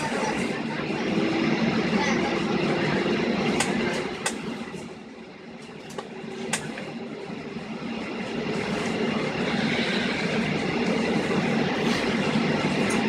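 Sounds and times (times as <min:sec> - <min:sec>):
airframe rumble: 0:00.0 - 0:13.0
jet engines at low power: 0:00.0 - 0:13.0.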